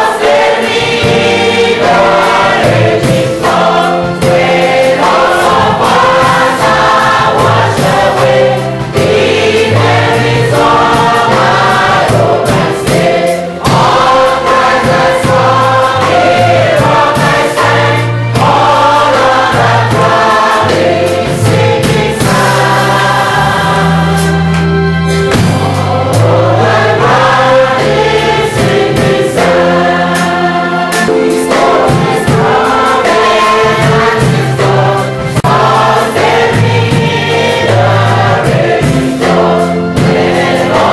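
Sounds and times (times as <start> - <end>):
band playing: 0.0 - 40.9
congregation singing a hymn: 0.0 - 40.9
drums: 0.0 - 40.9
bass line: 1.0 - 40.9.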